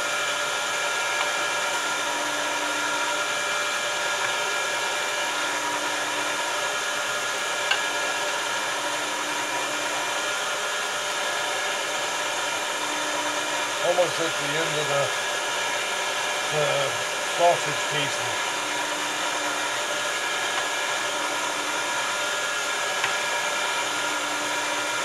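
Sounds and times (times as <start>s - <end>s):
meat grinder motor running: 0.0s - 25.0s.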